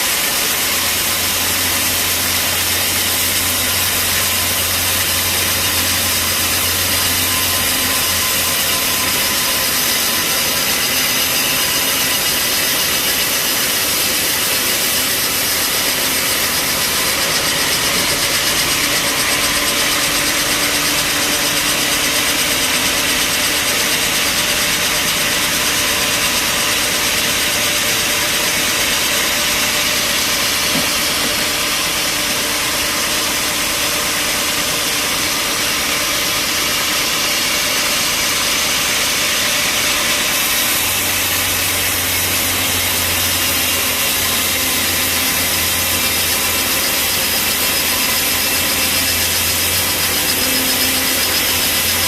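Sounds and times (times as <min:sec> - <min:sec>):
band sawmill running: 0:00.0 - 0:52.0.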